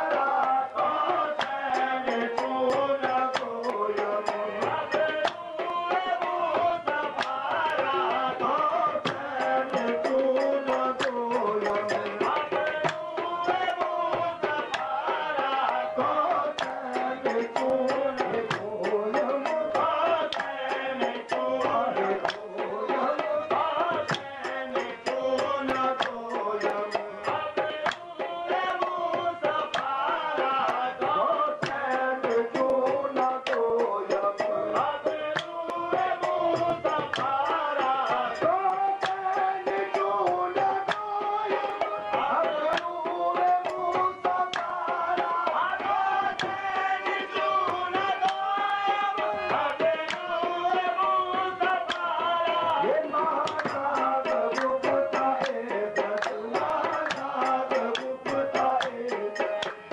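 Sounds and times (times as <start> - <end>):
person singing: 0.0 - 59.9
tabla fast rhythm: 0.0 - 59.9.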